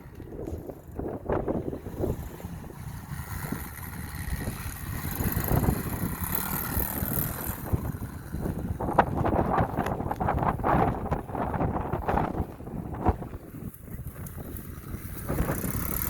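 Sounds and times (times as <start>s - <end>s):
motorbike engine running: 0.0s - 16.0s
wind buffeting microphone: 0.0s - 16.0s.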